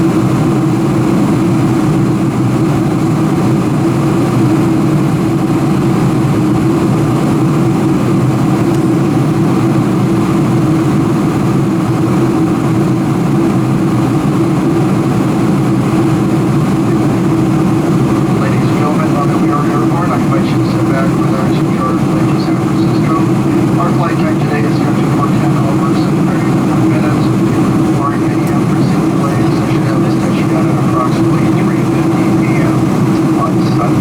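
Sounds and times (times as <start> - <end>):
aircraft cabin engine and airflow noise: 0.0 - 34.0
steady low hum: 0.0 - 34.0.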